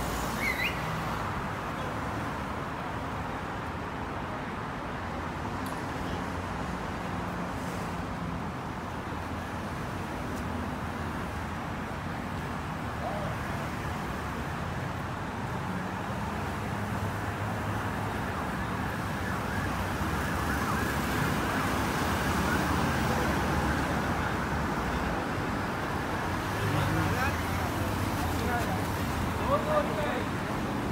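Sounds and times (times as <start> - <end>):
road traffic noise: 0.0 - 30.9.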